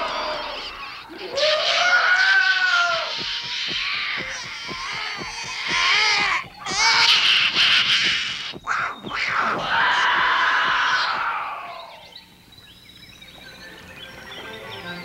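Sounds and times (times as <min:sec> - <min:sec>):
cartoon creatures shrieking and chattering: 0:00.0 - 0:12.1.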